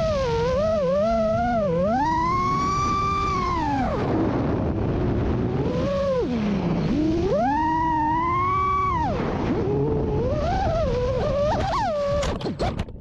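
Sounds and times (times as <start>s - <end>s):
quadcopter motors whining: 0.0s - 12.7s
steady rushing noise: 0.0s - 13.0s.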